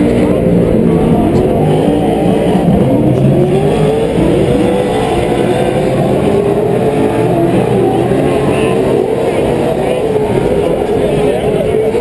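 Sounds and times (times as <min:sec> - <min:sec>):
race truck engines revving: 0:00.0 - 0:12.0.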